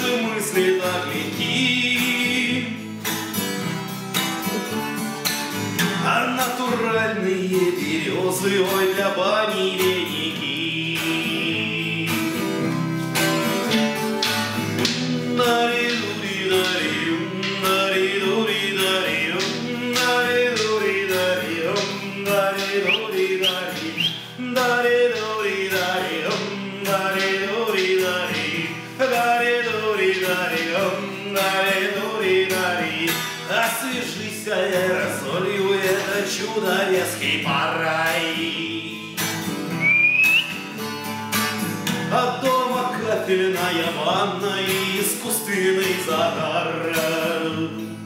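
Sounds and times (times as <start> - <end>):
strummed acoustic guitar song: 0.0 - 48.0.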